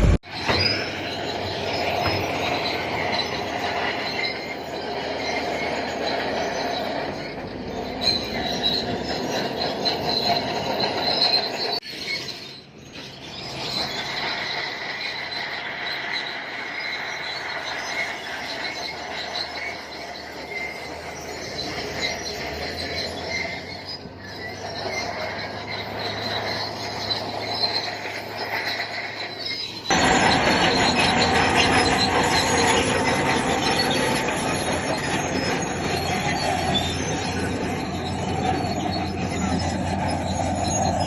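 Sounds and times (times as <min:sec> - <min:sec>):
bulldozer working: 0:00.0 - 0:41.0
crawler tracks squealing: 0:00.0 - 0:41.0.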